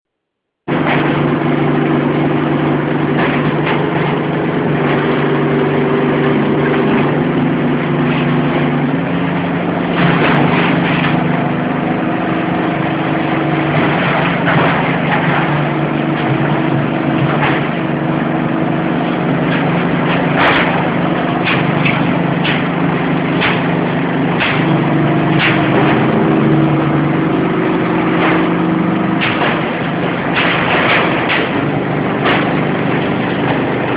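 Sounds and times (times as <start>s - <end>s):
hydraulic power pack humming: 0.6s - 33.9s
scrap metal cracking and crunching: 6.2s - 33.9s.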